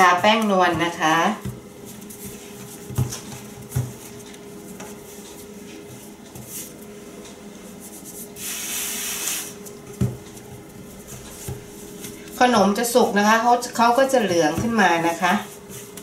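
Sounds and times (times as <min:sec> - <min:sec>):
hand rubbing flour on board: 0:00.0 - 0:09.7, 0:10.4 - 0:16.0
hands kneading dough: 0:00.0 - 0:16.0
steady low hum: 0:00.0 - 0:16.0.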